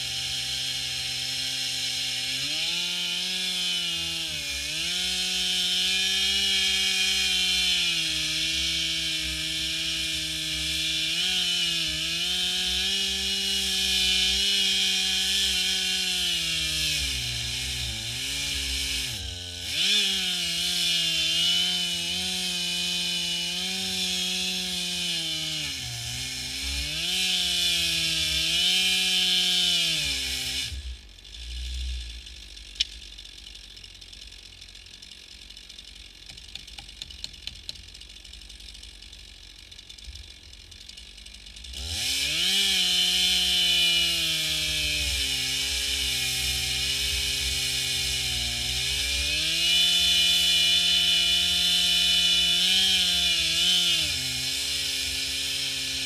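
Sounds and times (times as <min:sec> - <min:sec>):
chainsaw ripping a log: 0:00.0 - 0:33.4, 0:39.9 - 0:56.0.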